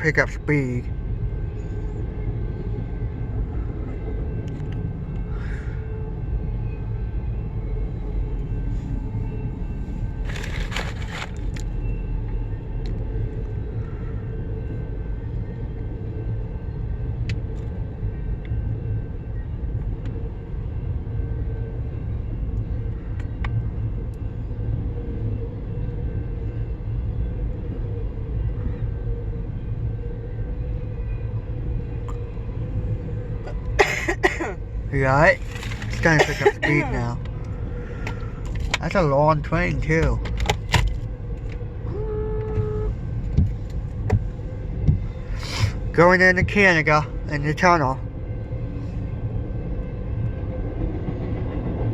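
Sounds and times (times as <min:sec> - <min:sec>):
train wheels rumbling on rails: 0:01.1 - 0:47.2, 0:48.3 - 0:51.9.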